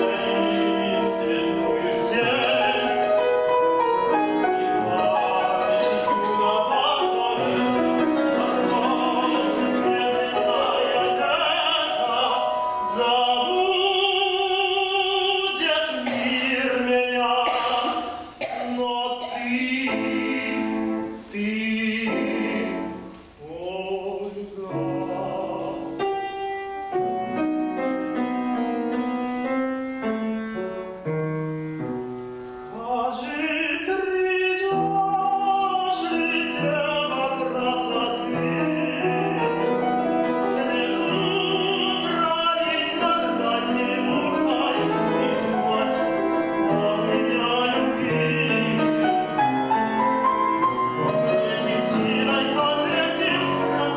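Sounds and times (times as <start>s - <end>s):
man singing operatically: 0.0s - 26.5s, 32.4s - 53.9s
piano accompaniment: 0.0s - 53.9s.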